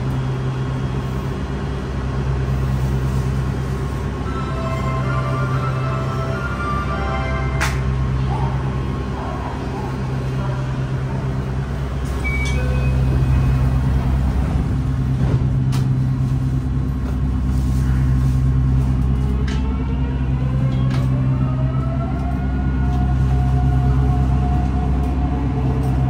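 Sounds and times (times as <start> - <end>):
train electrical hum: 0.0 - 26.0.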